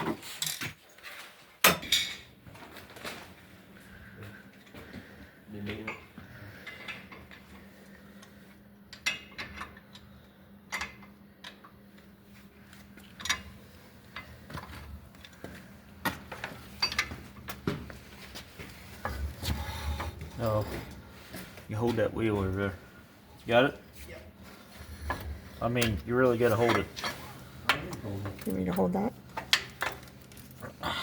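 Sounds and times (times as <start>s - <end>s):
faint steady hum: 1.7s - 31.0s.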